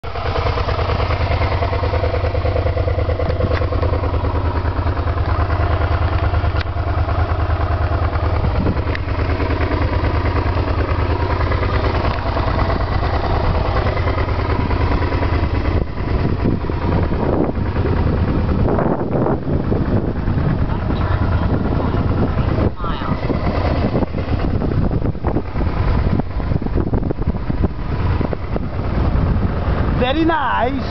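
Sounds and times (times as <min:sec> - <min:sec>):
scooter engine humming: 0:00.0 - 0:30.9.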